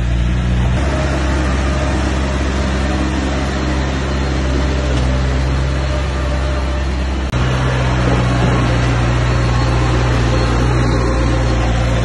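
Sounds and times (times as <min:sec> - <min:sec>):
bulldozer diesel engine humming: 0:00.0 - 0:12.0.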